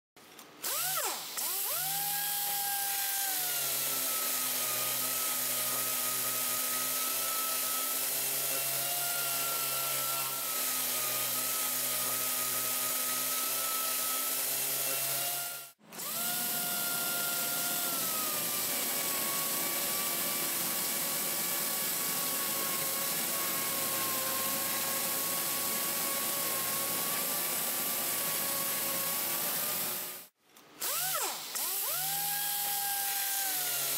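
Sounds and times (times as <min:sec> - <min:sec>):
orbital sander whining: 0:00.7 - 0:30.2.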